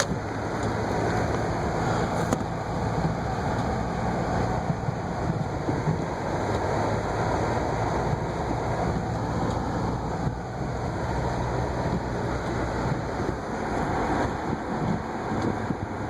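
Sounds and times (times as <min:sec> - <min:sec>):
car engine hum: 0:00.0 - 0:16.0
tyre and road noise: 0:00.0 - 0:16.0.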